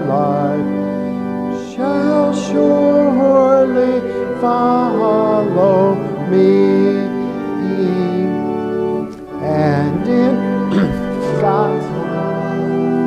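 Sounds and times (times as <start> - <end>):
man singing a hymn: 0.0 - 13.0
organ accompaniment: 0.0 - 13.0.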